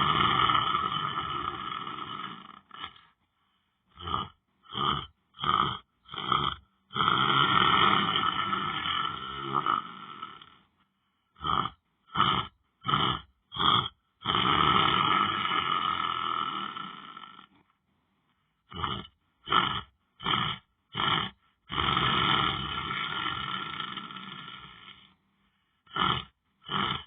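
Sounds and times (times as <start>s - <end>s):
person snoring: 0.0s - 3.2s, 3.9s - 10.7s, 11.3s - 17.6s, 18.7s - 25.2s, 25.8s - 27.0s.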